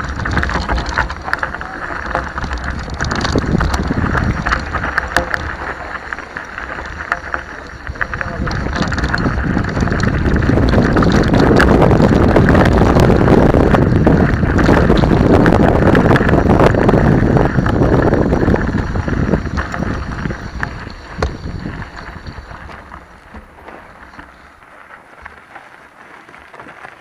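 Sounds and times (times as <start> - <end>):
wind buffeting microphone: 0.0 - 25.4
mountain bike rattling on dirt track: 0.0 - 27.0.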